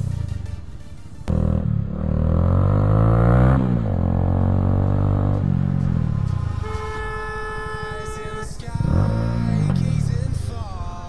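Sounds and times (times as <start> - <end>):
motorcycle accelerating: 1.2 - 10.8.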